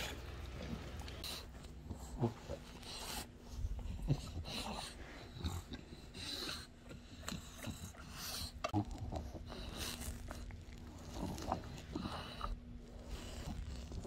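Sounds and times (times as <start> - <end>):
dog breathing noisily: 1.2 - 14.0.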